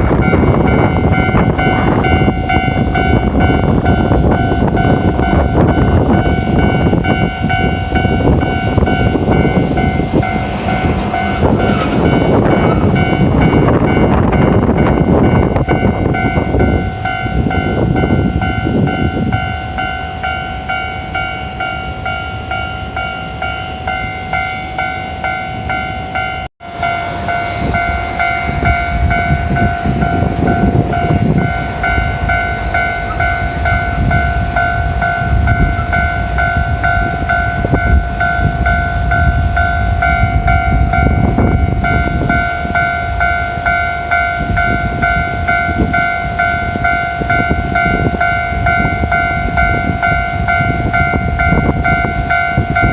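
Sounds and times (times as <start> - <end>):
heavy trucks rumbling past: 0.0 - 52.9
level crossing alarm clanging: 0.0 - 52.9.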